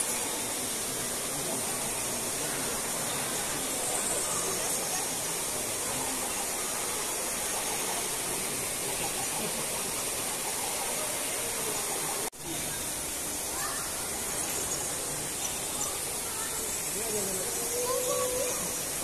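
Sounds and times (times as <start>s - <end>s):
steady rushing hissing noise: 0.0s - 19.0s.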